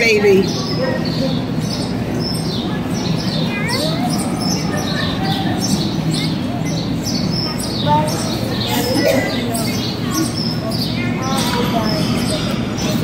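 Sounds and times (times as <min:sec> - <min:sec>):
murmur of people: 0:00.0 - 0:13.0
small birds chirping: 0:00.0 - 0:13.0.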